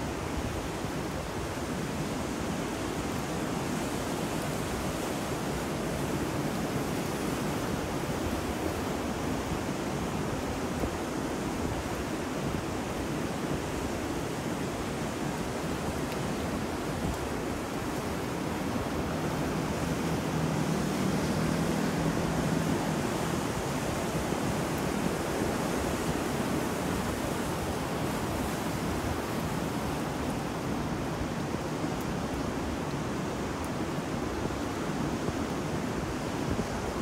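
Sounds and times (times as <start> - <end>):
ocean surf: 0.0 - 37.0
rain: 0.0 - 37.0
wind: 0.0 - 37.0.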